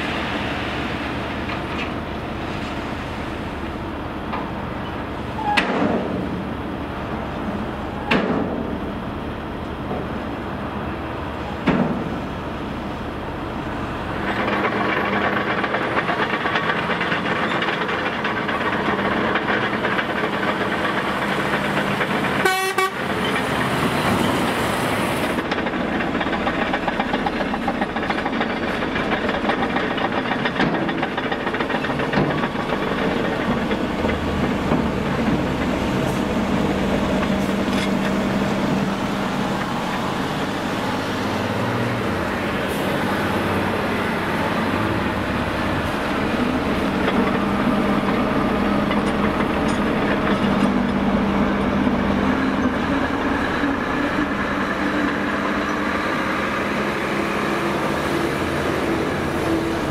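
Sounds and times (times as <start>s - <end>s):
heavy diesel machines rattling: 0.0s - 59.9s.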